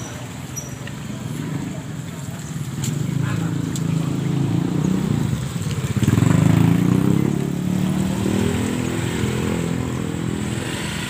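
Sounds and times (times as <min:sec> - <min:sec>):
small motorcycle engines: 0:00.0 - 0:11.0.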